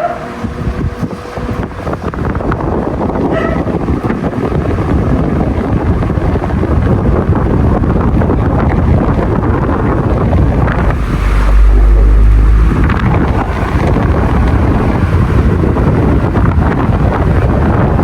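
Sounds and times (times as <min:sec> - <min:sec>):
fan wind buffeting microphone: 0:00.0 - 0:18.0.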